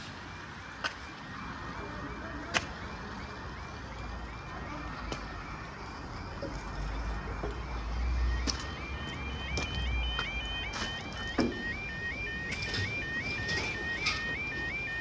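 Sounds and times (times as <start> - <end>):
crossing alarm repeating high tone: 0.0 - 15.0
steady background noise: 0.0 - 15.0.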